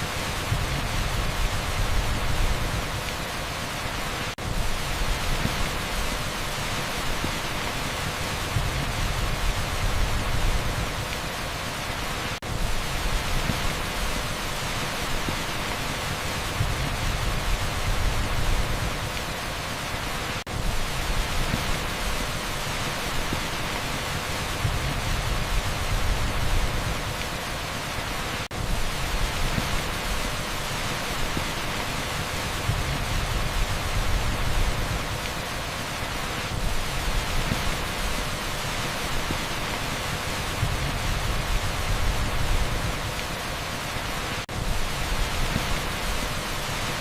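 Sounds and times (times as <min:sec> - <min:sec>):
torrential rain on asphalt: 0:00.0 - 0:47.0.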